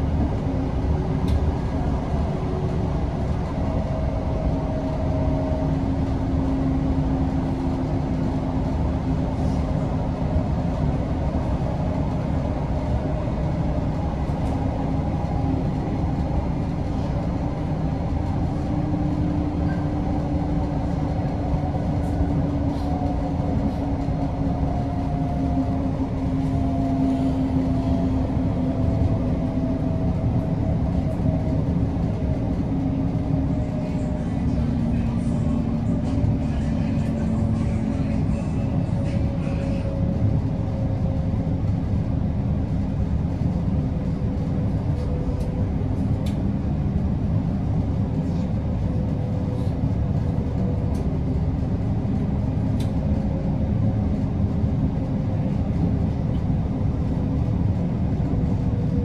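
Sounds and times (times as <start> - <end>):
train rumble with motor whine: 0.0 - 59.0.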